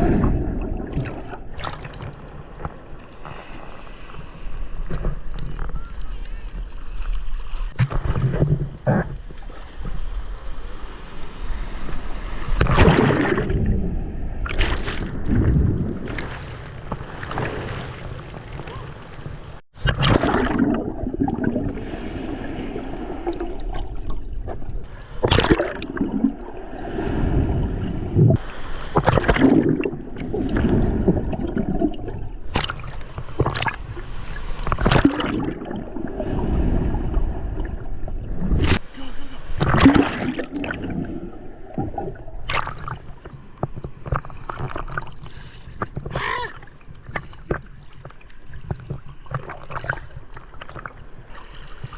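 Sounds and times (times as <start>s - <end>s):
sea water sloshing and splashing: 0.0s - 51.9s.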